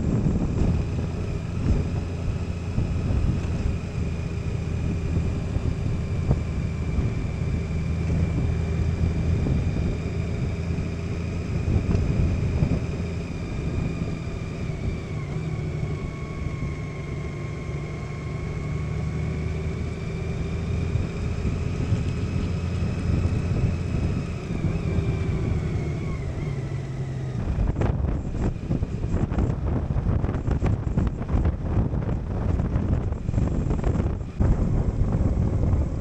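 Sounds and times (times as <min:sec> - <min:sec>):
wind buffeting on microphone: 0:00.0 - 0:17.0, 0:18.7 - 0:36.0
motorcycle engine drone: 0:00.0 - 0:36.0
road and wind noise: 0:00.0 - 0:36.0.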